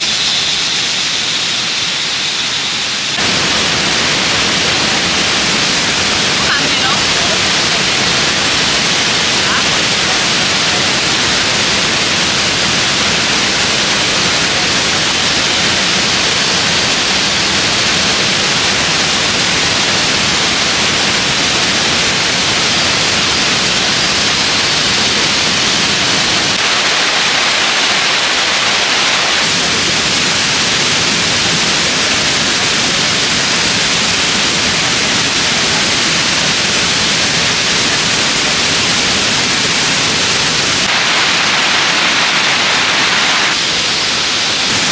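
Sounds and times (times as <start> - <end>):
rushing water hiss: 0.0 - 44.9.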